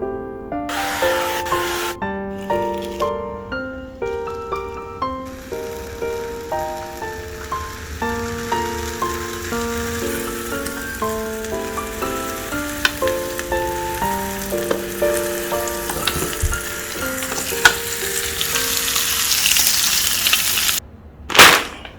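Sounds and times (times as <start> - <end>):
light background music: 0.0 - 19.9
food sizzling in waffle iron: 0.7 - 3.1, 4.1 - 20.8.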